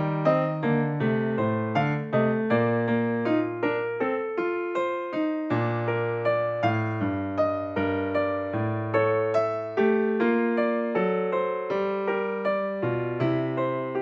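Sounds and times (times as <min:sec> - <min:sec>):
electric piano notes: 0:00.0 - 0:14.0.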